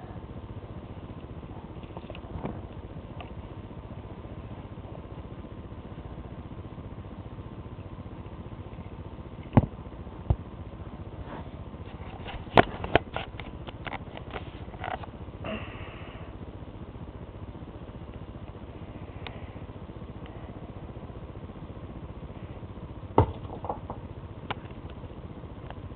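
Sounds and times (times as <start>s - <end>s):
steady low hiss: 0.0s - 25.9s.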